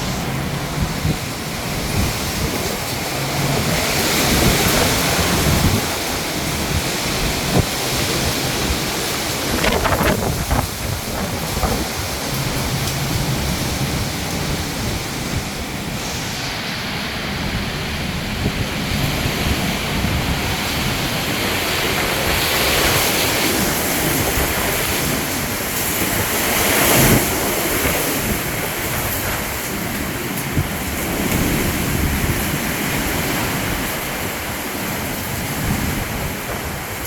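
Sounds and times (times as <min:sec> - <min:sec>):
wind gusting on microphone: 0:00.0 - 0:37.0.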